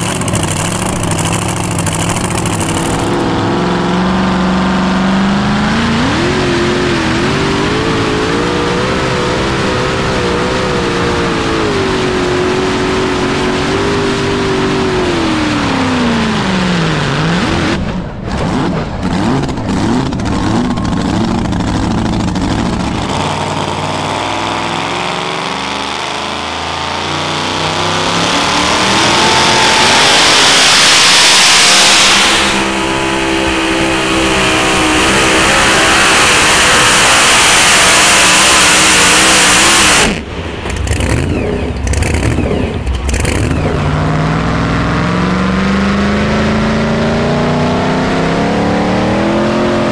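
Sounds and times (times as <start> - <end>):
loud rush of noise: 0.0 - 49.9
second truck engine running: 0.0 - 49.9
truck engine at full throttle: 0.0 - 49.9.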